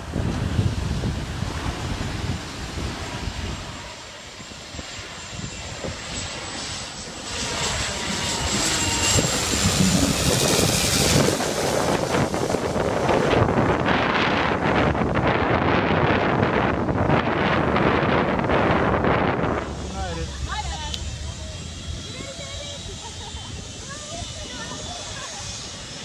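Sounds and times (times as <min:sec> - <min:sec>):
propeller plane flying overhead: 0:00.0 - 0:26.0
thin high engine whine: 0:00.0 - 0:26.0
wind buffeting microphone: 0:00.0 - 0:26.0.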